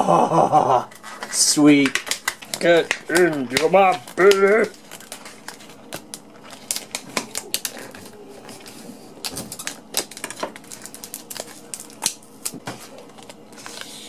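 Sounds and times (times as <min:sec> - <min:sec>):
plastic blister pack crackling: 0:00.9 - 0:14.0.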